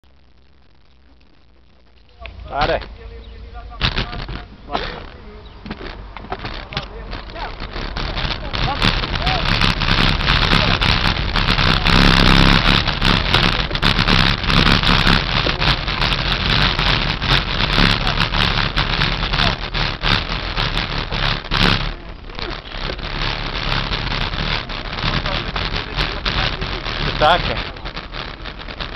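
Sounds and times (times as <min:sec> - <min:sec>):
road rumble: 0:00.0 - 0:28.9
wind rushing over microphone: 0:02.3 - 0:28.9.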